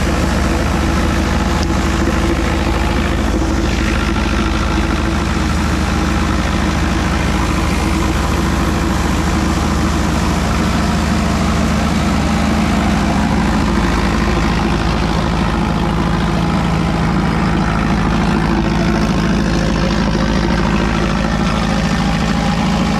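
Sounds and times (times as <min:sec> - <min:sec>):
thresher engine humming: 0:00.0 - 0:22.9.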